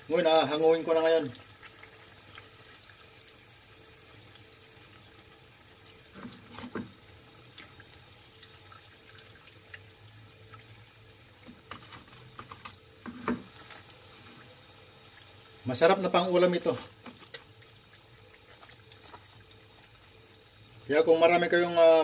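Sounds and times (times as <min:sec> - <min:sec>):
food frying in oil: 0:00.0 - 0:22.0.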